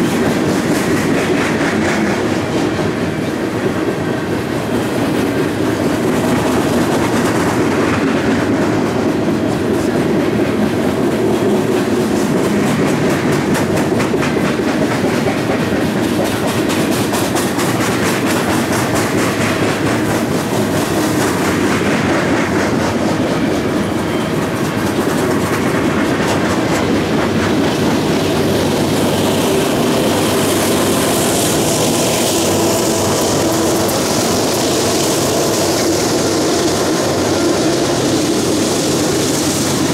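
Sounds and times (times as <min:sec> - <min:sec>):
clickety-clack over rail joints: 0:00.0 - 0:39.9
diesel locomotives: 0:00.0 - 0:39.9
train wheels rumbling: 0:00.0 - 0:39.9.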